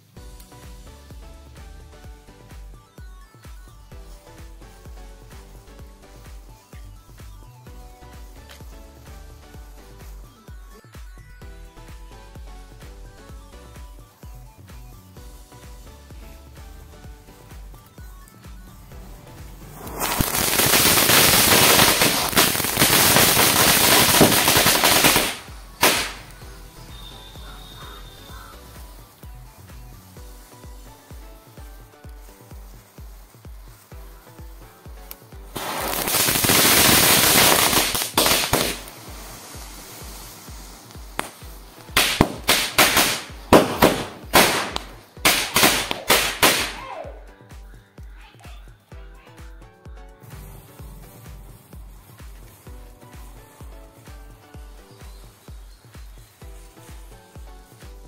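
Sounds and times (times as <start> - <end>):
firework fountain hissing and crackling: 0.0 - 48.1, 50.2 - 58.0
background music with steady beat: 0.0 - 58.0.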